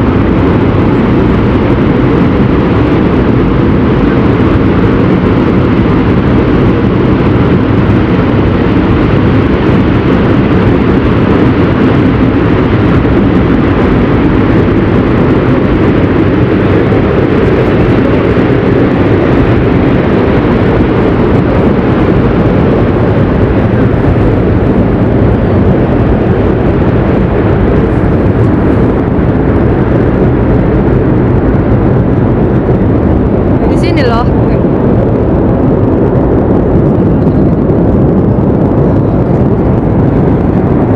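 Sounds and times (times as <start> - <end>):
volcanic vent deep rushing: 0.0 - 40.9.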